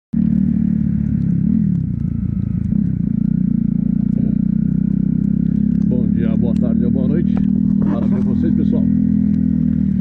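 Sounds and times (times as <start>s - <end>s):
motorcycle engine running: 0.2s - 10.0s.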